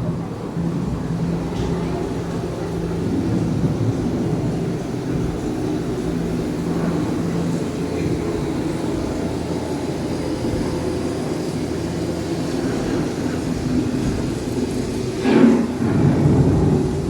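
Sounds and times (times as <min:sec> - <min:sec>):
loud storm rumble: 0:00.0 - 0:17.0.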